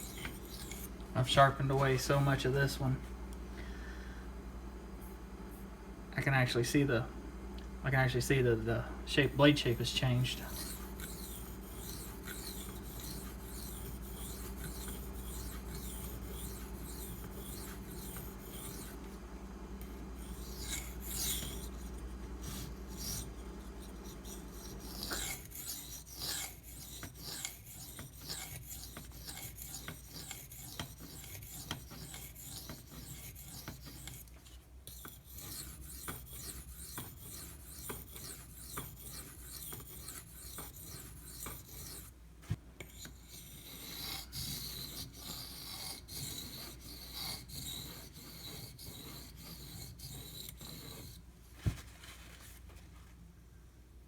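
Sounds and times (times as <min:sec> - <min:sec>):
knife scraping on whetstone: 0:00.0 - 0:02.5, 0:09.2 - 0:19.2, 0:19.8 - 0:42.1, 0:42.8 - 0:51.2.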